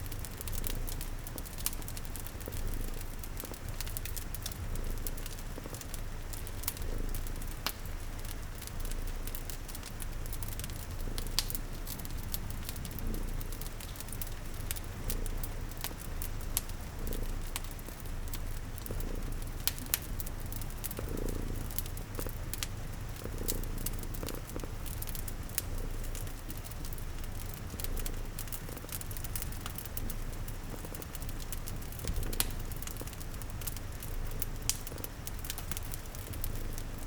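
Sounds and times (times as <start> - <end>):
cat purring: 0.0 - 37.0
soft rain patter: 0.0 - 37.0
wood fire popping and crackling: 0.0 - 37.0.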